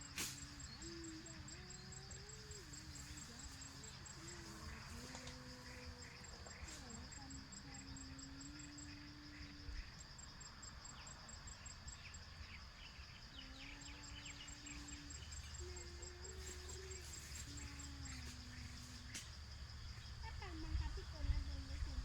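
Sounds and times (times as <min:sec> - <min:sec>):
faint birds chirping: 0:00.0 - 0:22.0
insects trilling: 0:00.0 - 0:22.0.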